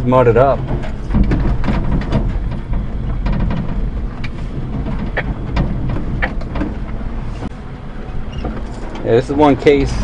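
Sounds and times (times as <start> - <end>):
cab knocking and rattling: 0.0 - 10.0
small engine rumbling: 0.0 - 10.0.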